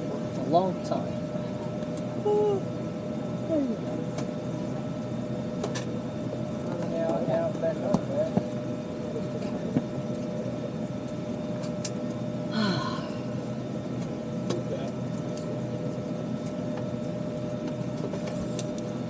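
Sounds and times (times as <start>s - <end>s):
cabin ventilation hum: 0.1s - 19.0s.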